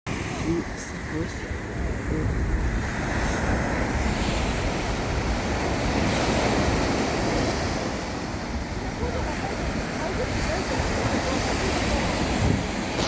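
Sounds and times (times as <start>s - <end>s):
sea surf breaking on shore: 0.1s - 13.0s
wind buffeting microphone: 0.1s - 13.0s.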